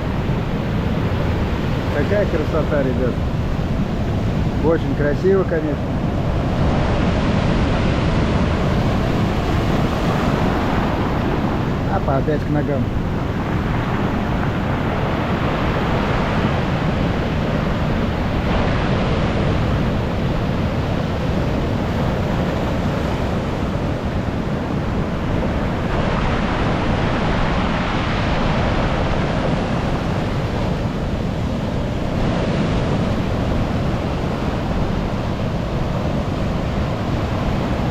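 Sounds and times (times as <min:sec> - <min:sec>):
stormy surf breaking: 0:00.0 - 0:37.9
wind buffeting microphone: 0:00.0 - 0:37.9.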